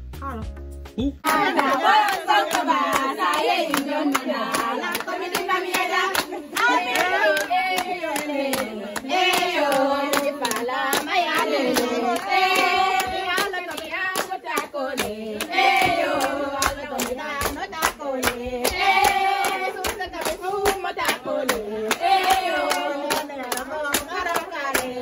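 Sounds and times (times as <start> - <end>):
hand claps: 1.2 - 25.0
women chanting a song: 1.2 - 25.0.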